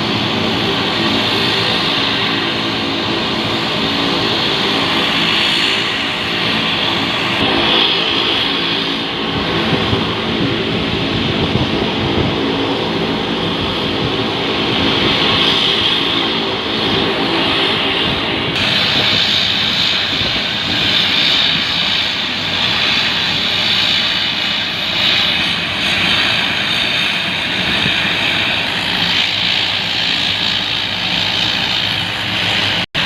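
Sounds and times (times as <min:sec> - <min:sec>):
aircraft engines running: 0:00.0 - 0:33.0.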